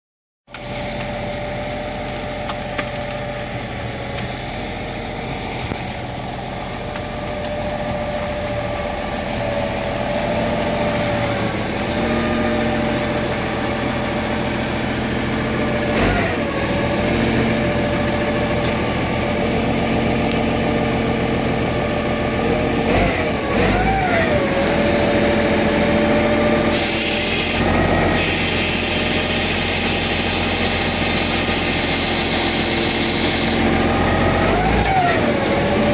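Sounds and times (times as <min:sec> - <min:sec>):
heavy equipment engine running: 0:00.5 - 0:35.9.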